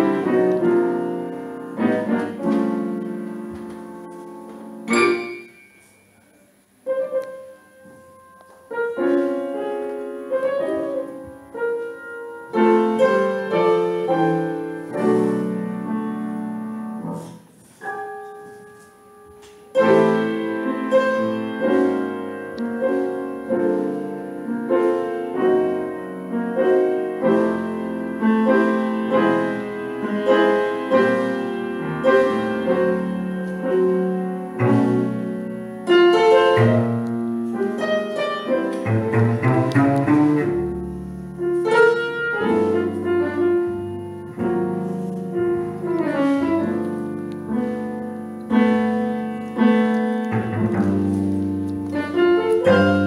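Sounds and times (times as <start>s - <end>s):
jazz piano chords: 0.0s - 53.0s.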